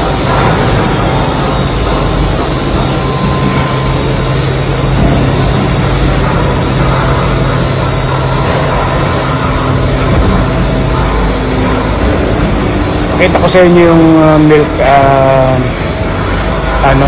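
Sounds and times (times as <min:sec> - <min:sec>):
constant high whine: 0:00.0 - 0:17.0
milking machine mechanical drone: 0:00.0 - 0:17.0.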